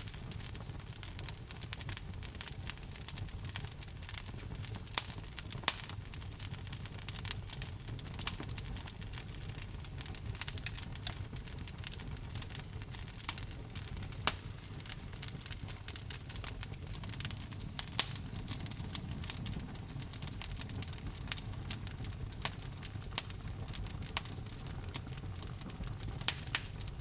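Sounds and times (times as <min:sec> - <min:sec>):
logs crackling and popping: 0:00.0 - 0:27.0
low fire rumble: 0:00.0 - 0:27.0.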